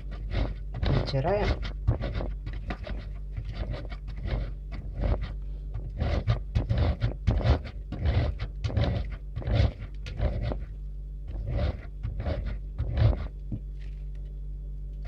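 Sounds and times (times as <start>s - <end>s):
soap rasping on metal grater: 0.0s - 10.7s, 11.3s - 13.3s.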